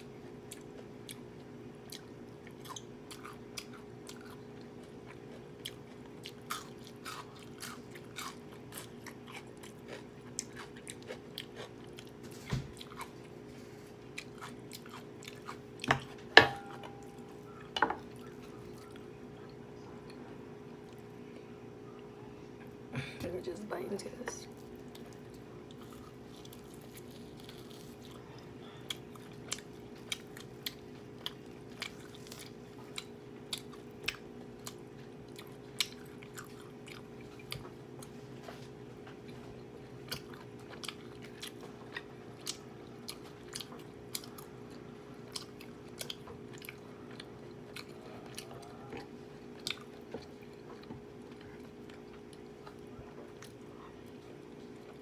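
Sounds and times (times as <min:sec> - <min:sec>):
faint steady hum: 0:00.0 - 0:55.0
person chewing food: 0:00.1 - 0:22.0, 0:24.5 - 0:55.0.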